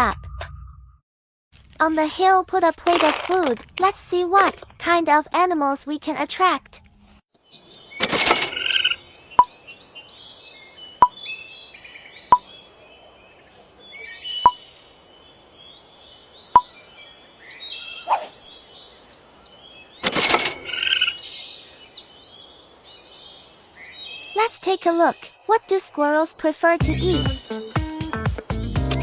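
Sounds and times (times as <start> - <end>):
birds chirping and trilling: 4.2 - 28.0.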